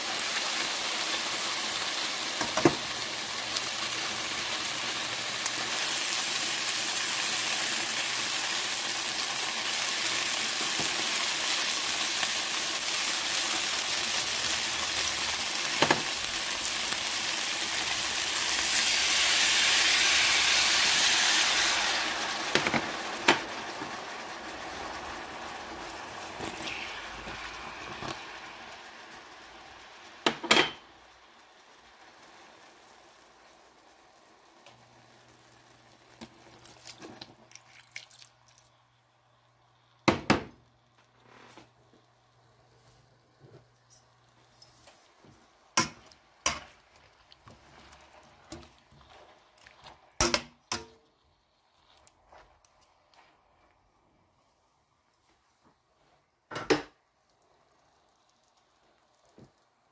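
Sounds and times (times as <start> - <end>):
chicken sizzling in hot oil: 0.0 - 54.5, 56.9 - 59.9.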